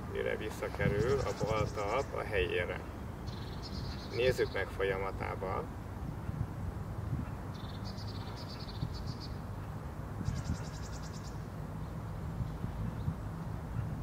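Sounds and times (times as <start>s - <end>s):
songbird trills: 0.0s - 5.6s, 7.2s - 14.0s.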